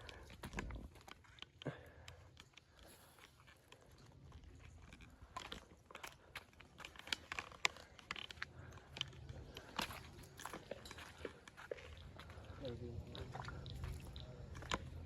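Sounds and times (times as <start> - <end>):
faint crunches and clicks: 0.0 - 15.0.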